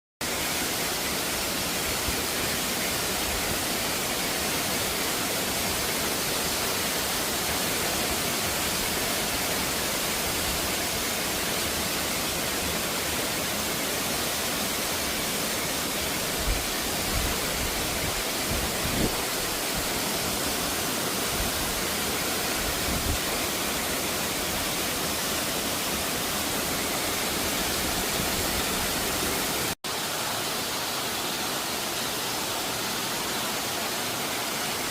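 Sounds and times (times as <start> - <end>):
stream rushing: 0.2 - 34.9.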